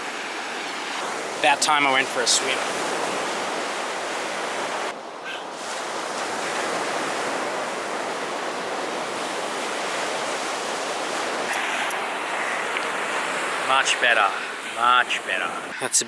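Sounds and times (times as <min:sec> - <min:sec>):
ocean surf washing on shore: 0:00.0 - 0:15.8.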